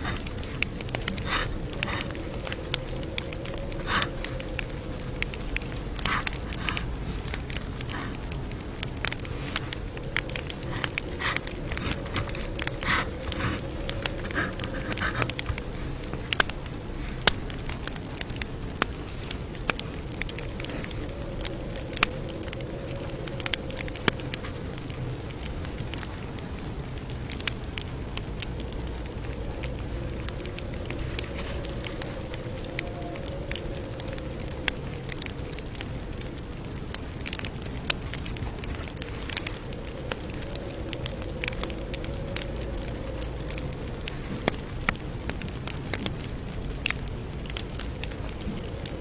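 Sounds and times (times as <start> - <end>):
burning wood rumble: 0.0 - 49.0
campfire crackling: 0.0 - 49.0.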